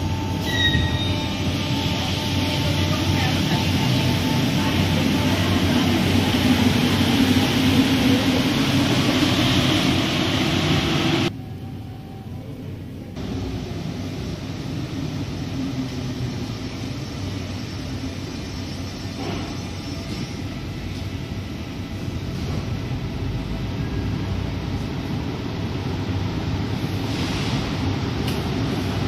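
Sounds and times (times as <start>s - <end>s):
metro train pulling into station: 0.0s - 29.0s.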